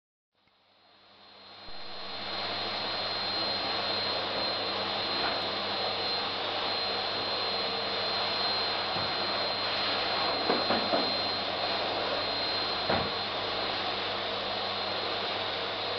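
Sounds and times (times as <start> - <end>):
vacuum cleaner running: 0.7 - 15.9.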